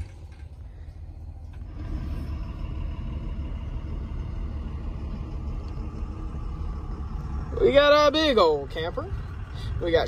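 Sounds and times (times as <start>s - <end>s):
van engine and road noise: 0.0s - 10.0s.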